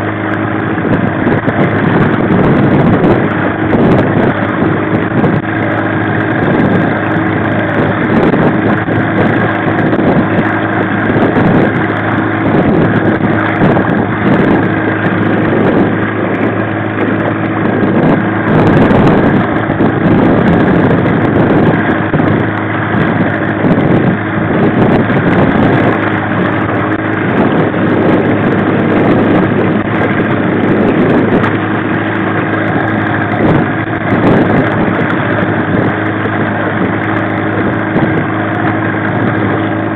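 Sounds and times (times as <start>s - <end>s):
outboard motor running: 0.0s - 39.9s
wind noise on microphone: 0.0s - 39.9s.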